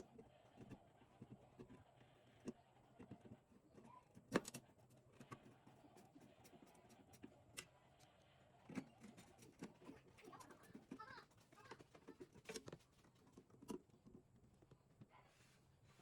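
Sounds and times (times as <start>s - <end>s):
faint knocks and clicks: 0.0s - 15.2s.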